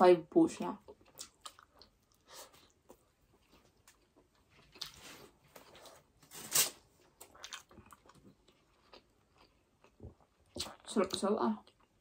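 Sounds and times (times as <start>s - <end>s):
soft chewing smacks and clicks: 0.8s - 6.0s, 7.2s - 12.0s.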